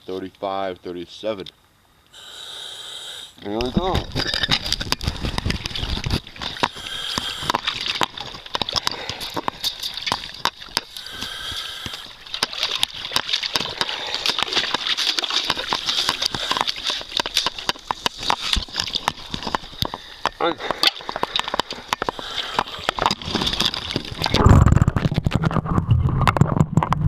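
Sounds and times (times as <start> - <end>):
water sloshing in pool: 3.8 - 25.6
ice crackling and breaking: 4.1 - 27.0.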